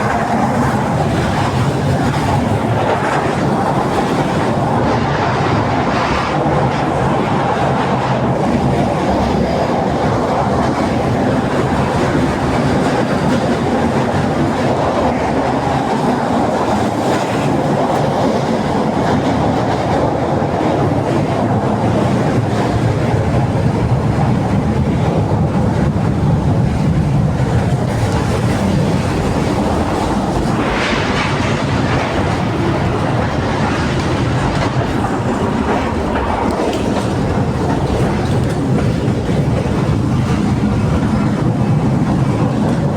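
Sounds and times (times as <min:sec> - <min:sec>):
clickety-clack over rail joints: 0:00.0 - 0:42.9
tram wheels rumbling: 0:00.0 - 0:42.9.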